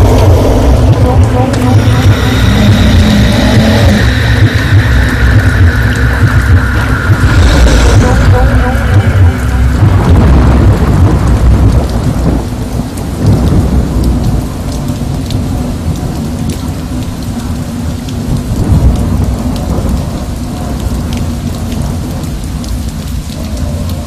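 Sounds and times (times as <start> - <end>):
low rolling thunder: 0.0 - 24.0
steady rain: 0.0 - 24.0.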